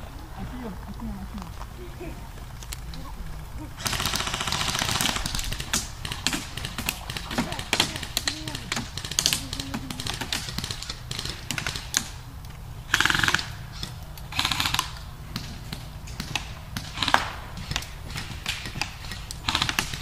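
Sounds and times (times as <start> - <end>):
low rumble: 0.0 - 20.0
airsoft guns firing bursts: 3.8 - 20.0.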